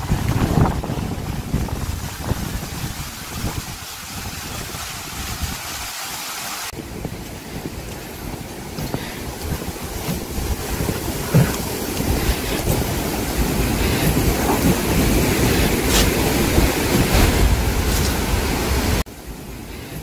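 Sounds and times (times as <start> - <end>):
gusty wind buffeting microphone: 0.0 - 5.8, 6.7 - 20.0.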